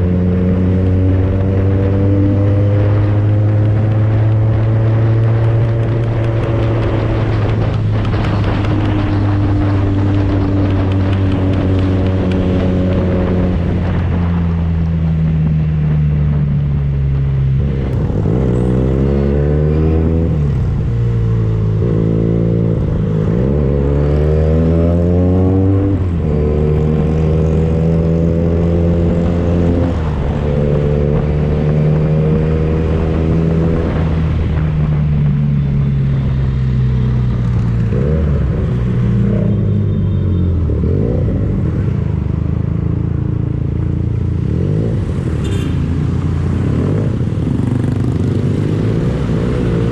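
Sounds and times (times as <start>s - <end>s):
motorcycle engine revving: 0.0s - 39.8s, 40.6s - 49.9s.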